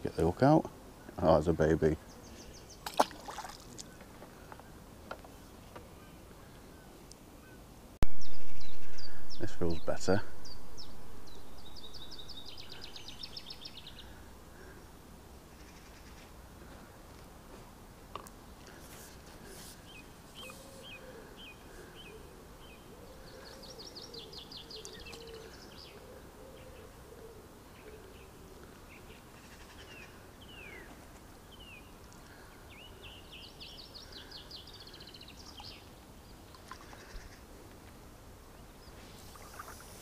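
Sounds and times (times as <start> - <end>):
small birds singing: 0.0 - 17.0, 18.4 - 37.8
faint background hiss: 0.0 - 40.0.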